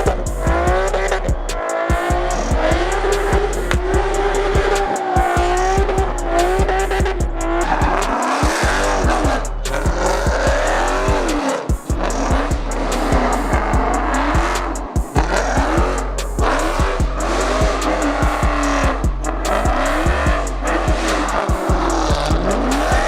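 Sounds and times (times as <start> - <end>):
car tyres squealing: 0.0 - 23.0
music with heavy bass: 0.0 - 23.0.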